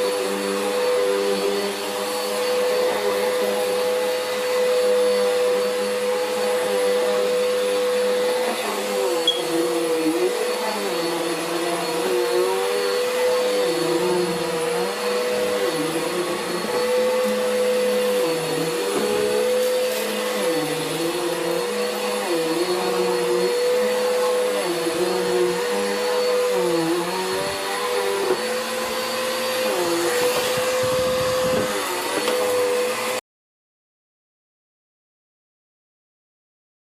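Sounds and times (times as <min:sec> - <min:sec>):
vacuum cleaner running: 0:00.0 - 0:33.2.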